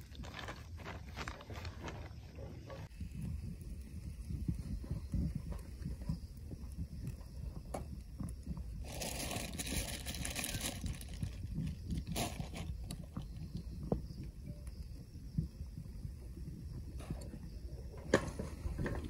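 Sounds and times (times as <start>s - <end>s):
gas stove burner rumble: 2.4s - 19.0s.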